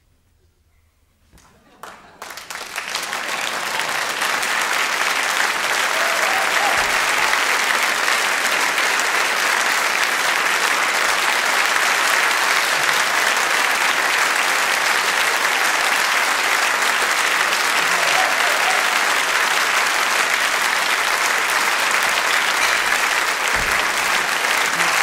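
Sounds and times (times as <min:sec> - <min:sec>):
audience applauding: 0:01.4 - 0:25.0.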